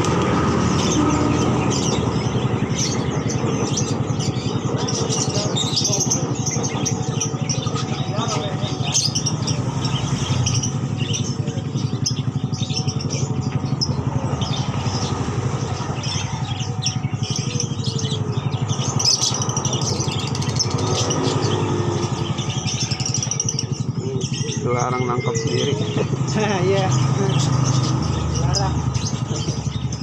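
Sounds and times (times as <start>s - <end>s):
birds chirping and twittering: 0.0s - 30.0s
small engine running: 0.0s - 30.0s.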